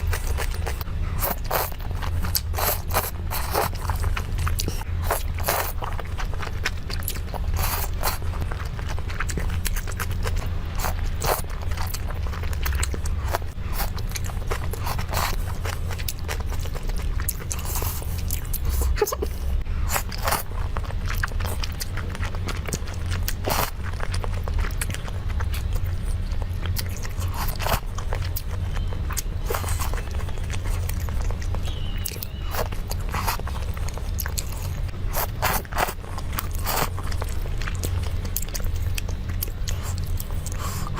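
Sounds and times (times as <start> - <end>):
crunchy chewing of food: 0.0 - 40.9
steady low hum: 0.0 - 40.9.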